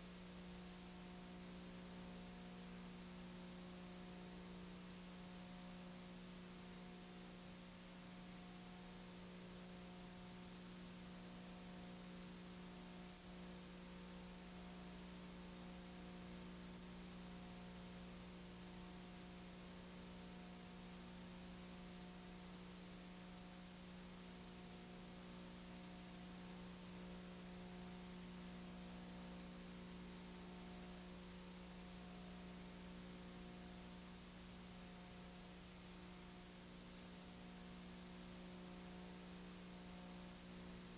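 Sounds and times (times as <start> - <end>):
faint electrical hum: 0.0 - 40.9.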